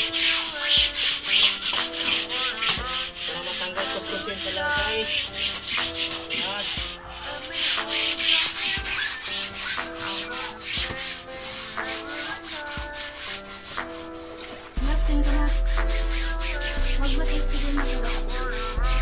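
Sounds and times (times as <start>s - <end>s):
brush scrubbing wet fabric: 0.0s - 19.0s.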